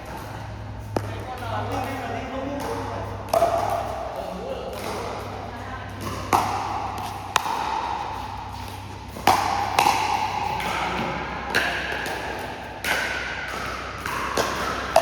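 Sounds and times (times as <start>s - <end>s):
ball bouncing on court: 0.1s - 15.0s.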